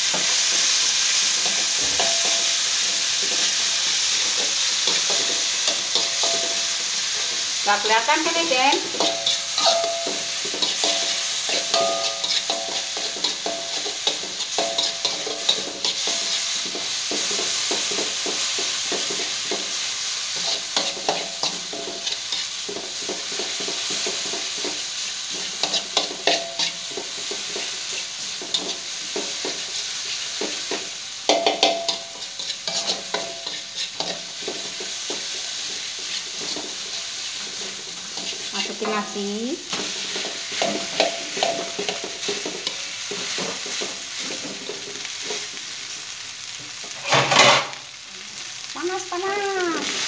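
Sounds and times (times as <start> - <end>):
paste sizzling in hot oil: 0.0 - 50.0
wooden spatula scraping wok: 1.3 - 46.0, 46.7 - 47.8.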